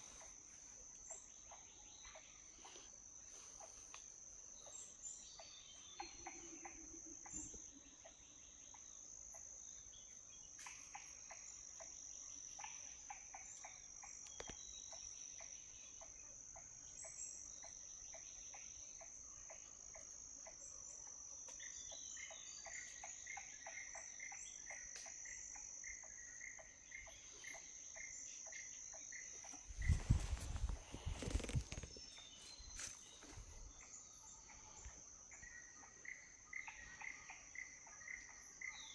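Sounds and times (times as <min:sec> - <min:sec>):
crickets and insects buzzing: 0:00.0 - 0:38.9.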